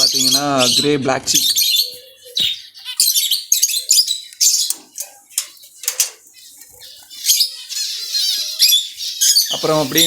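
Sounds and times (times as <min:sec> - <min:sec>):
small cage birds chirping: 0:00.0 - 0:10.0.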